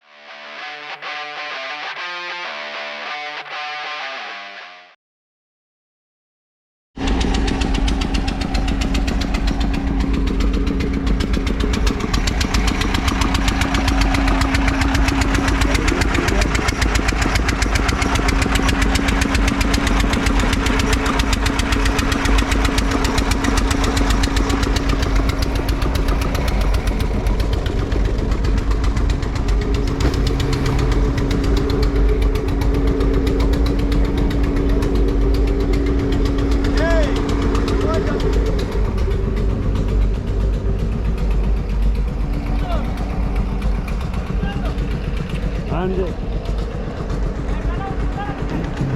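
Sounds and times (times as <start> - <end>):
heavy machinery engine knocking: 7.0 - 48.9.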